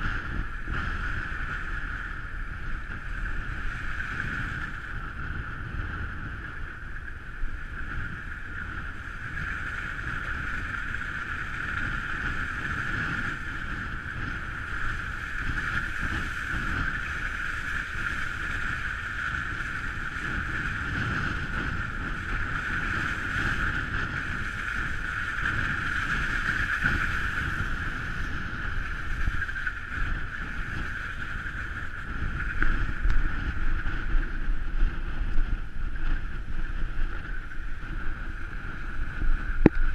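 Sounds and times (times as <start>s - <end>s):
engine and tyre rumble: 0.0s - 39.9s
wind rushing and hissing: 0.0s - 39.9s.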